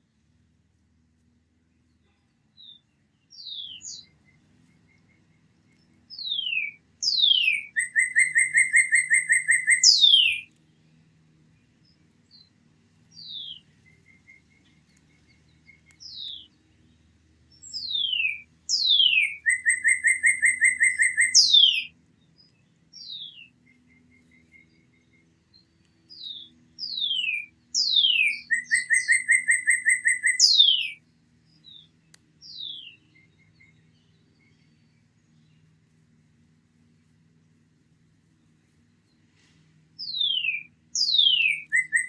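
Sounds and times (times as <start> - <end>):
songbird singing: 1.2 - 42.0.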